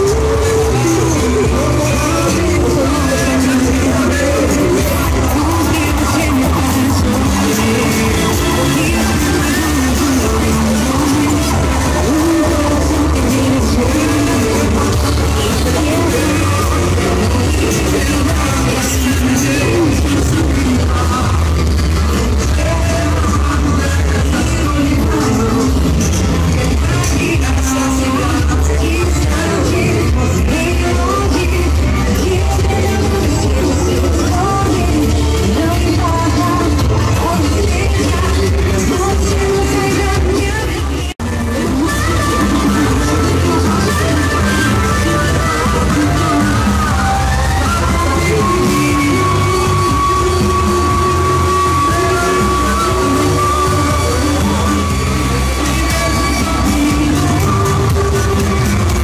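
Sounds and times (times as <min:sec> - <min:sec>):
heavy bass: 0:00.0 - 0:59.0
loud music with singing voice: 0:00.0 - 0:59.0.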